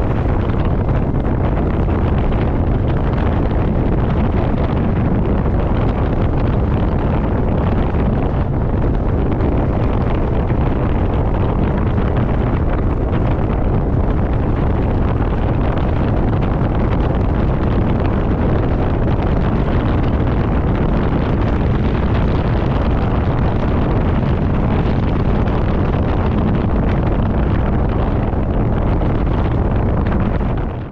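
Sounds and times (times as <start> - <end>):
tyres rumbling on packed snow: 0.0 - 30.9
wind noise: 0.0 - 30.9.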